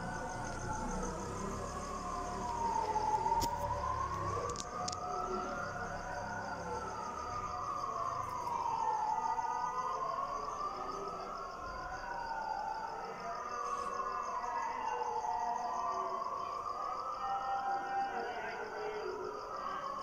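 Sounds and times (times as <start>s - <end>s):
air-raid siren wailing: 0.0s - 20.0s
crickets chirping: 0.0s - 20.0s.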